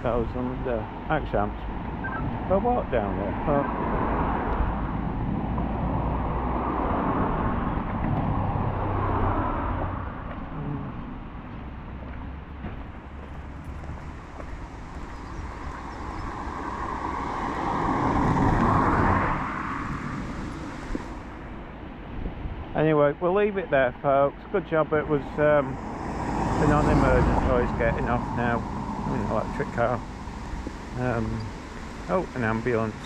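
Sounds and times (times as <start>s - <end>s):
cars passing: 0.0s - 23.0s, 23.7s - 33.0s.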